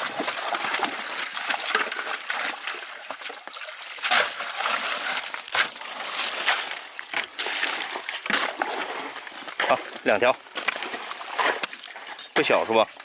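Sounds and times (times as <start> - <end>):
pond water splashing: 0.0 - 13.0.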